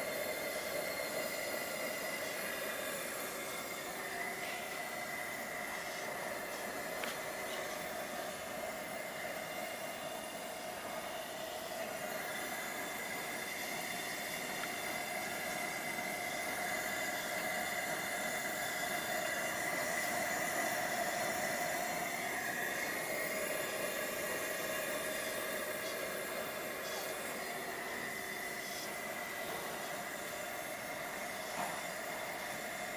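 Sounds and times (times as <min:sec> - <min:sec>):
camping stove burner hissing: 0:00.0 - 0:32.9
faint steady tones: 0:00.0 - 0:32.9.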